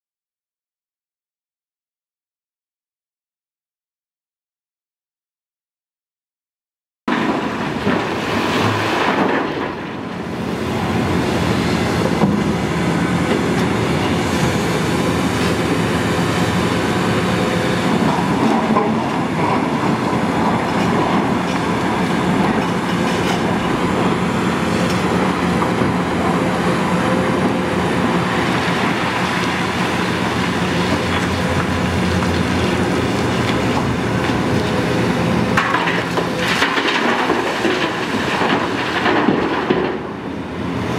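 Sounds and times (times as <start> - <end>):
excavator diesel engine and hydraulics: 7.1 - 40.9.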